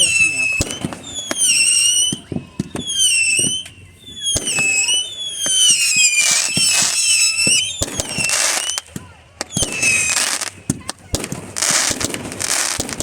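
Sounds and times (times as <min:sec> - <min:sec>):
firework bangs and pops: 0:00.0 - 0:13.0
firework crackling: 0:00.0 - 0:13.0
whistling fireworks: 0:00.0 - 0:13.0.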